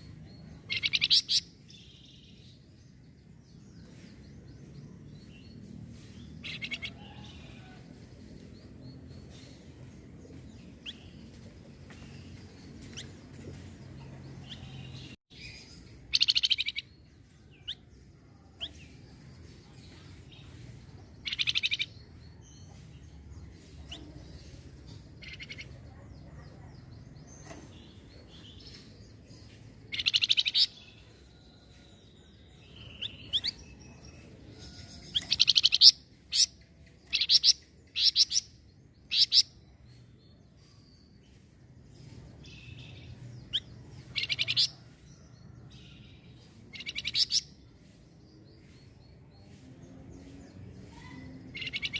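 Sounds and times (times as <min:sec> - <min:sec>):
soft bird chirps: 0:08.4 - 0:51.9.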